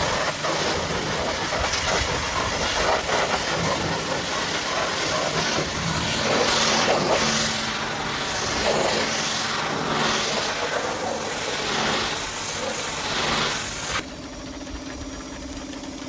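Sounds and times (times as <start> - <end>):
pressure washer spraying: 0.0 - 14.1.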